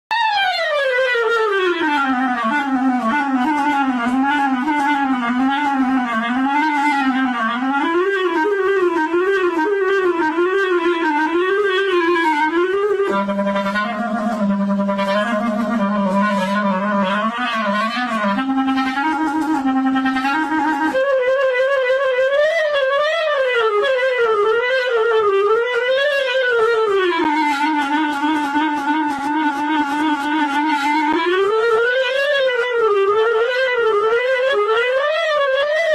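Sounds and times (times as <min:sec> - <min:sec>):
woodwind-like sliding tone: 0:00.1 - 0:35.9.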